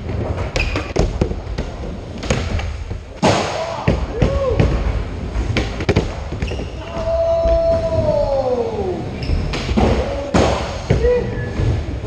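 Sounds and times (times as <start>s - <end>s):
skateboard wheels rumbling on ramps: 0.0s - 3.2s, 3.8s - 12.0s.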